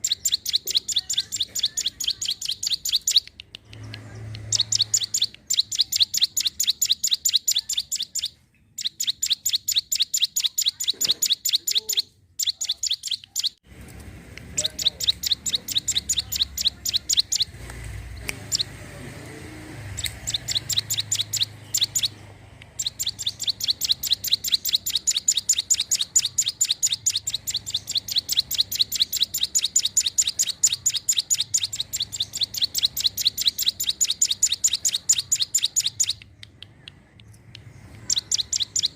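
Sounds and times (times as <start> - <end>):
bird singing high sharp chirps: 0.0 - 13.6, 14.5 - 19.0, 19.7 - 36.6, 37.4 - 38.9.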